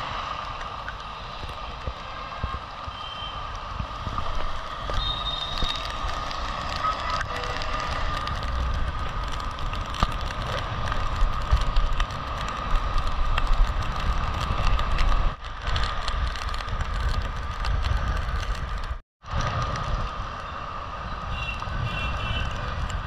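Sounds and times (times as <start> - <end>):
tyres on wet road: 0.0 - 23.0
wind buffeting microphone: 0.0 - 23.0.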